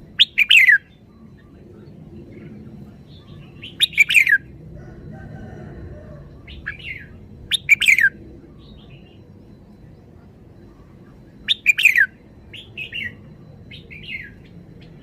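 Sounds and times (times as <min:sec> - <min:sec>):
low background rumble: 0:00.0 - 0:15.0
bird singing whistled notes: 0:00.1 - 0:04.5, 0:06.3 - 0:10.0, 0:10.6 - 0:15.0.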